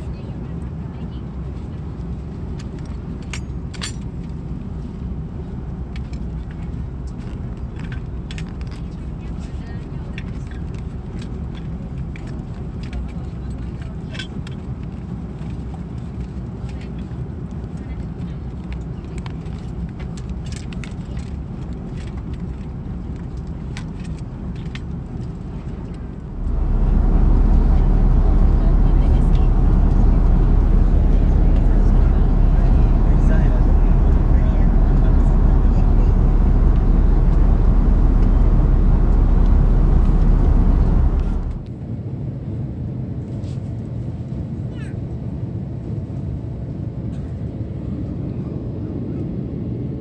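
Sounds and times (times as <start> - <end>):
aircraft cabin drone: 0.0 - 50.0.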